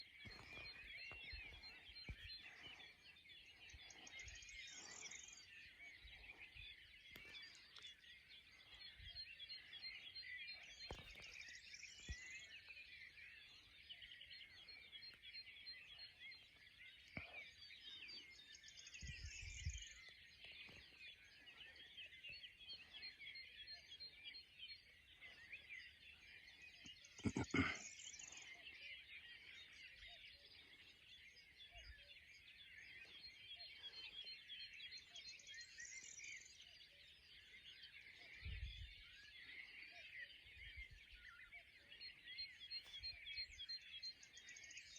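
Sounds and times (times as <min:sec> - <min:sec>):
higher chattering birdsong: 0:00.0 - 0:44.9
small birds singing: 0:00.0 - 0:44.9.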